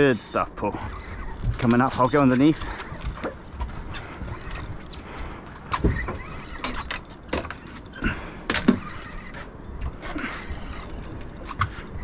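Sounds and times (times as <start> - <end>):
fishing reels whirring and clicking: 0.0 - 12.0
wind: 0.0 - 12.0.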